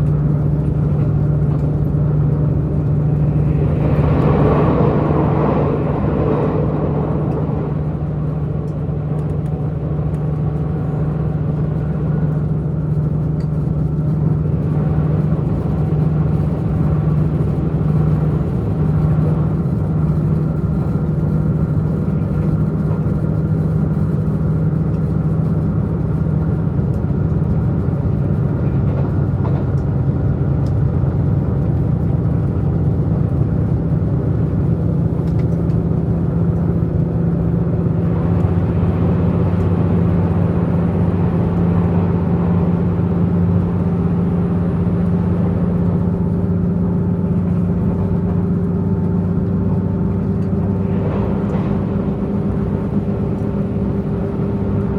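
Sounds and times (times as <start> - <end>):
diesel train engine drone: 0.0 - 54.9
rail running noise: 0.0 - 54.9.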